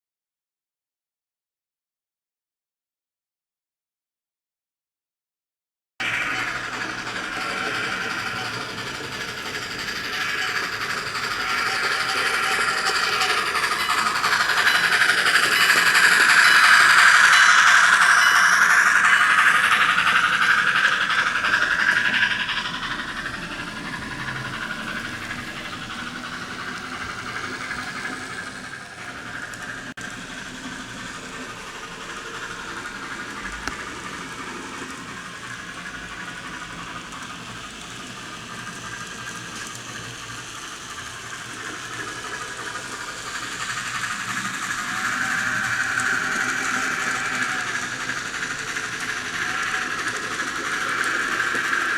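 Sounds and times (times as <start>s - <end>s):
model train running on track: 6.0s - 51.9s.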